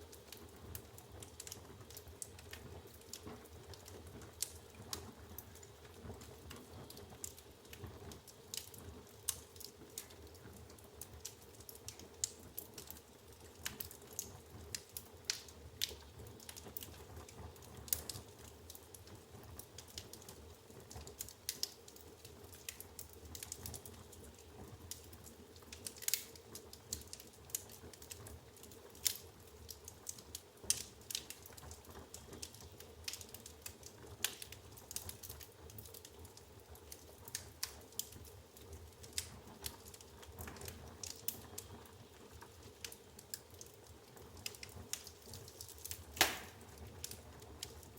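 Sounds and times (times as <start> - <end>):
logs crackling and popping: 0.0 - 47.9
low fire rumble: 0.0 - 47.9.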